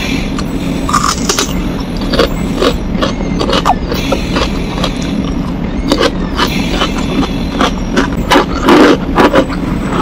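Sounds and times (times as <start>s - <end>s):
steady low hum: 0.0s - 10.0s
chewing crunchy food: 0.9s - 10.0s.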